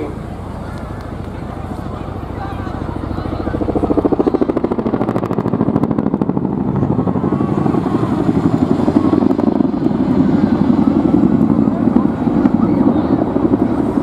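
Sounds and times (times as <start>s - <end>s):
helicopter rotor blades beating: 0.0s - 14.0s.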